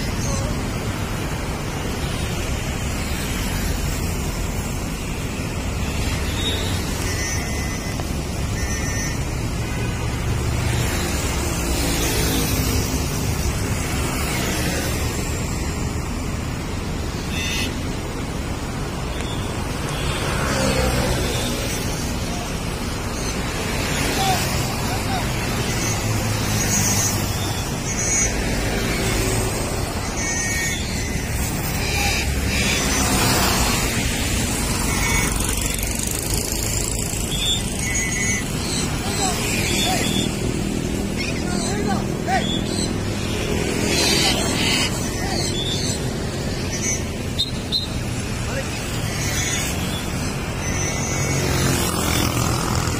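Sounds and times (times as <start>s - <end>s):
highway traffic: 0.0s - 52.9s
motorbikes passing: 0.0s - 52.9s.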